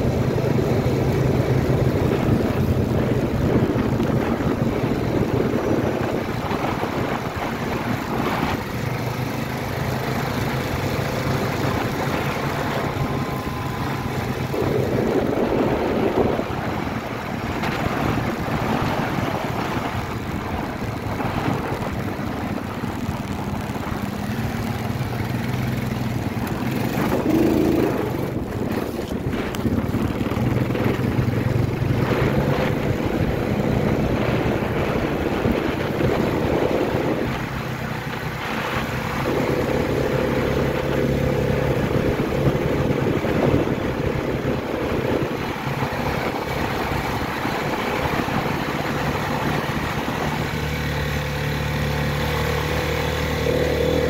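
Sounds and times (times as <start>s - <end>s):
quad engine running: 0.0s - 54.0s
wind noise on microphone: 0.0s - 54.0s.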